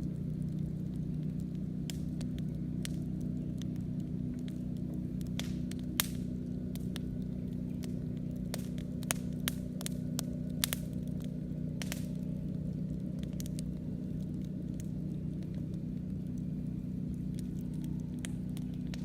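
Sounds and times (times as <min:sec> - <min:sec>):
burning wood popping: 0:00.0 - 0:19.0
campfire crackling: 0:00.0 - 0:19.0
steady low drone: 0:00.0 - 0:19.0.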